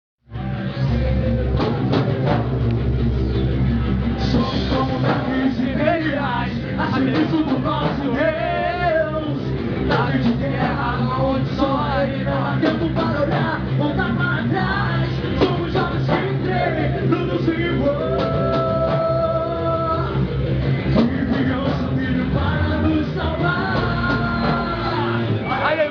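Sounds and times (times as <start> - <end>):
rock band playing: 0.3 - 25.9
person singing: 4.2 - 25.5.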